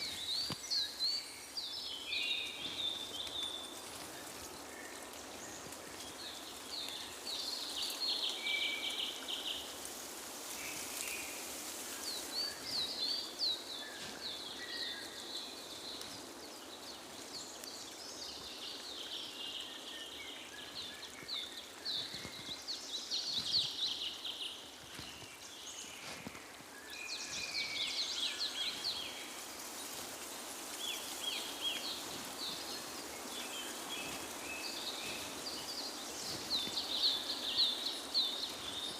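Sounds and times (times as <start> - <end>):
outdoor ambience hiss: 0.0 - 38.9.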